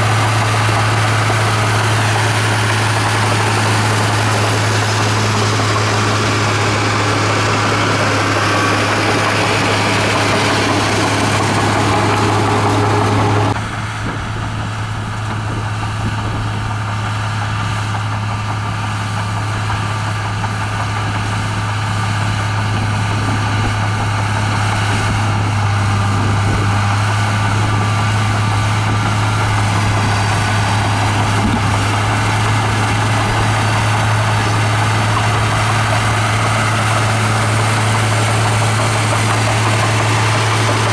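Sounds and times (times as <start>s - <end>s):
bulldozer diesel engine humming: 0.0s - 40.9s.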